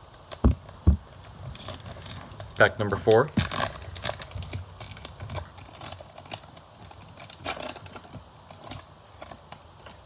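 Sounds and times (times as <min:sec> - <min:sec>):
wrapper crinkling and tearing: 0:01.2 - 0:10.0.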